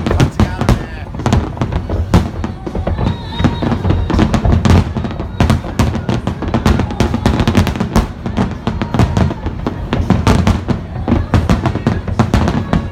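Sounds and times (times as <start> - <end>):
fireworks bangs and crackles: 0.0 - 12.9.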